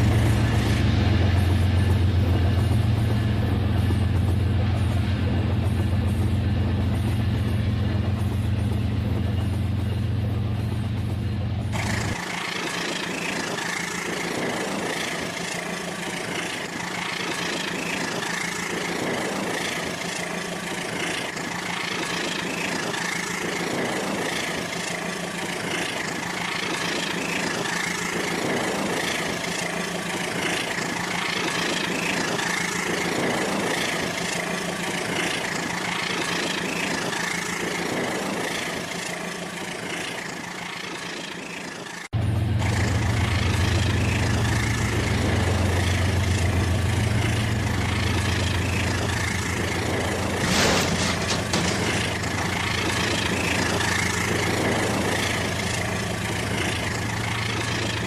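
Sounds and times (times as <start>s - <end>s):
low engine-like hum: 0.0s - 58.0s
soft clatter of train: 0.0s - 58.0s.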